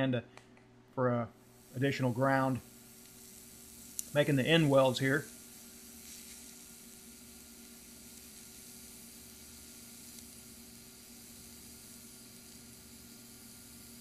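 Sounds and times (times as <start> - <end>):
welding arc hissing: 1.4 - 14.0.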